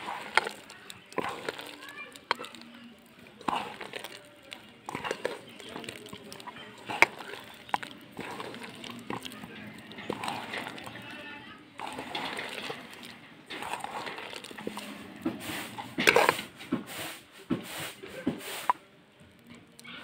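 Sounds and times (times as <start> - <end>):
wet squelching of kneaded mash: 0.0 - 20.0.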